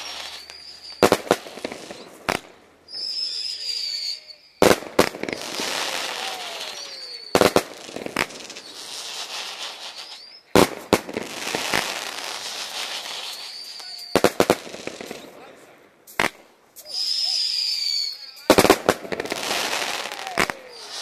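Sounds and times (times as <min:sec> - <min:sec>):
rising firework whistle: 0:00.0 - 0:15.4, 0:16.2 - 0:21.0
firework bangs: 0:00.0 - 0:21.0
firework crackling: 0:00.0 - 0:21.0.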